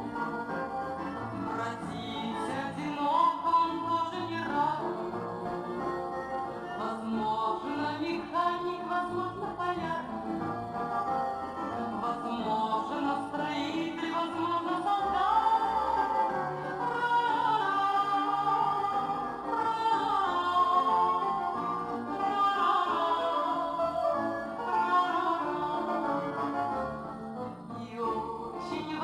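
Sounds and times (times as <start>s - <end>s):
instrumental music with gliding melody: 0.0s - 29.0s.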